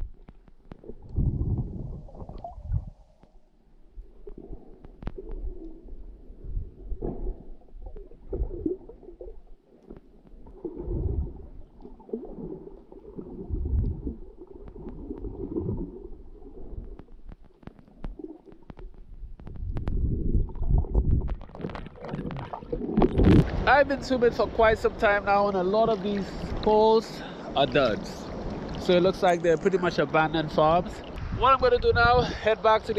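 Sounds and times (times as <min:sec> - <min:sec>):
underwater rumbling water surges: 0:00.8 - 0:03.1, 0:04.0 - 0:32.9.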